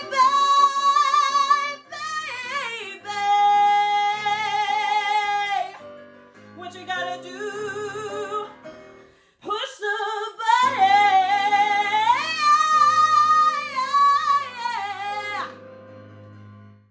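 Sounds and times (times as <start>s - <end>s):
woman singing with vibrato: 0.0s - 5.8s, 6.6s - 8.5s, 9.4s - 15.6s.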